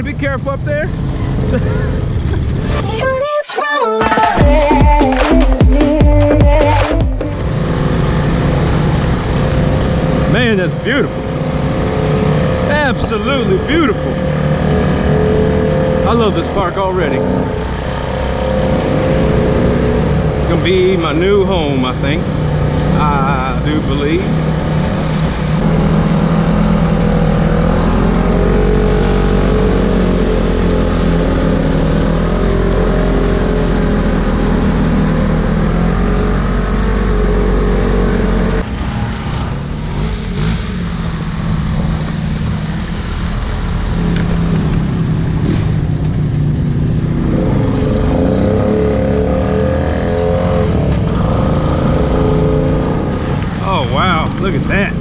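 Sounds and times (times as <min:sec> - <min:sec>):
atv engine revving: 0:04.0 - 0:55.0.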